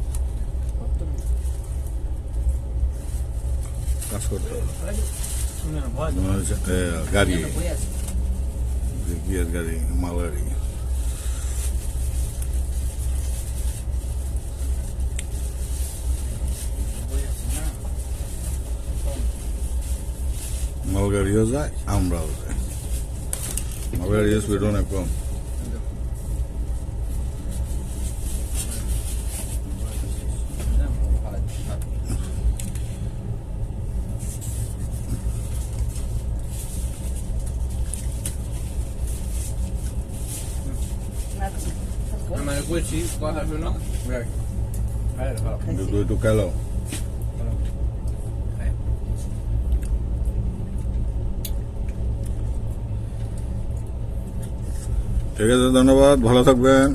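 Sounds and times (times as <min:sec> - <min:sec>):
train rumbling with hiss: 0:00.0 - 0:56.9.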